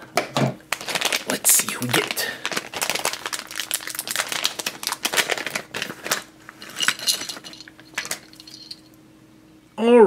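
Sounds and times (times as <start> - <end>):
plastic bag crinkling: 0.7 - 8.8.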